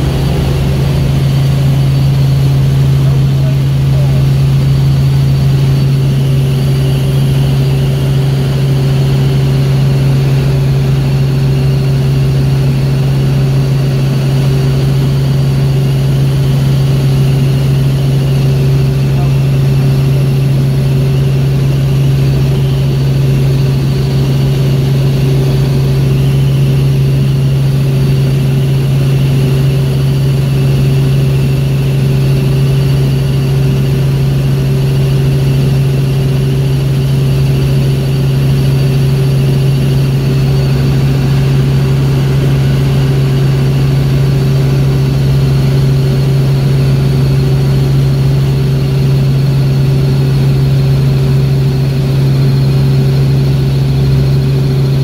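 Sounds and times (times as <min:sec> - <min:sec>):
helicopter rotor drone: 0:00.0 - 0:55.0
high whine: 0:00.0 - 0:55.0.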